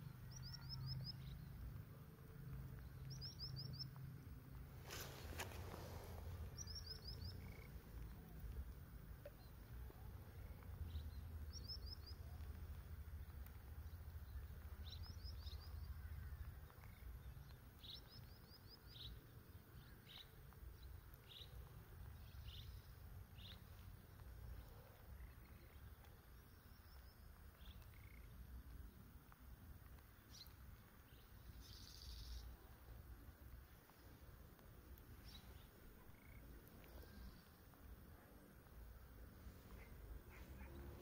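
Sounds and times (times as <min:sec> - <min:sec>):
small bird chirping: 0:00.0 - 0:01.8, 0:02.7 - 0:41.0.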